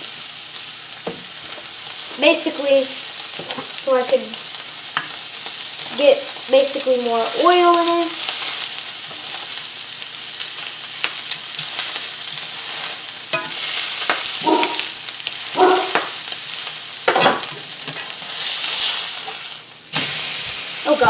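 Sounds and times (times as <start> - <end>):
steak sizzling in a frying pan: 0.0 - 21.0.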